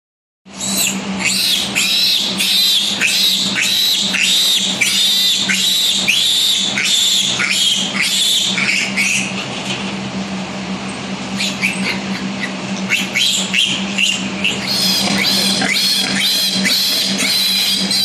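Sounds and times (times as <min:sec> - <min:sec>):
steady low hum: 0:00.5 - 0:18.0
piglet squealing: 0:00.6 - 0:09.4, 0:11.4 - 0:18.0.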